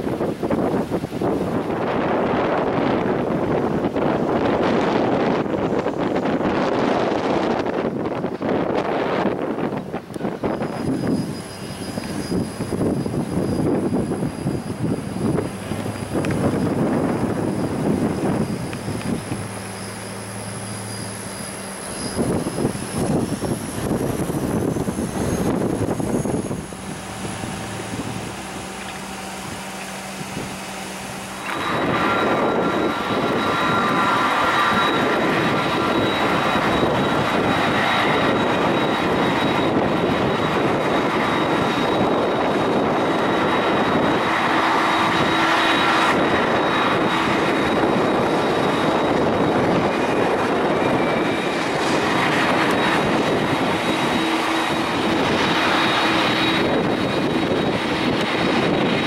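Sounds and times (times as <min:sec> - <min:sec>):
jet engines rushing and whining: 0:00.0 - 0:59.0
turboprop engine running: 0:00.0 - 0:59.0.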